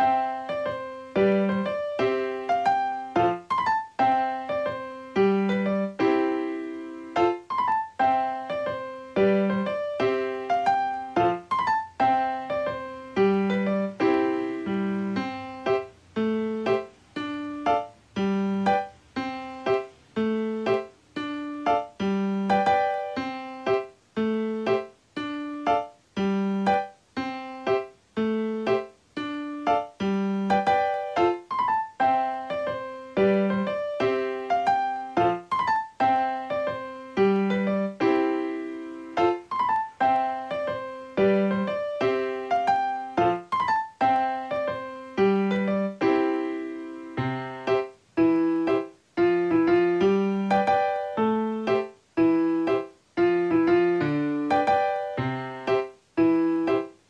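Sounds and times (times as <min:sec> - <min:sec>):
light keyboard melody: 0:00.0 - 0:57.0.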